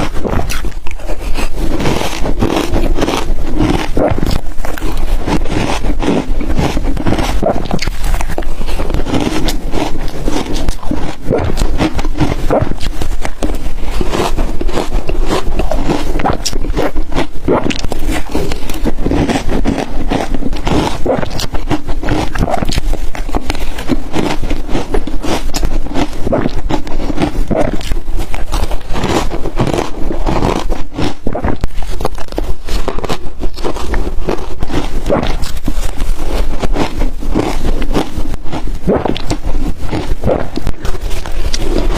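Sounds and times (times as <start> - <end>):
ice crunching between teeth: 0.0 - 41.9.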